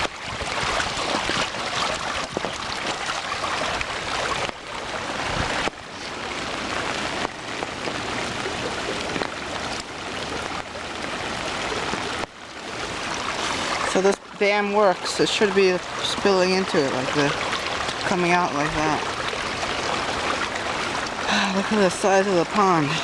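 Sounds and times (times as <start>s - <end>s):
river floodwater rushing: 0.0s - 23.0s.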